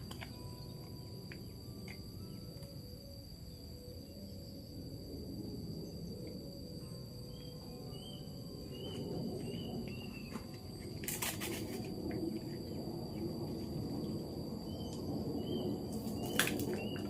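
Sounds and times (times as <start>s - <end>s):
insects trilling: 0.0s - 17.0s
low steady rush: 0.0s - 17.0s.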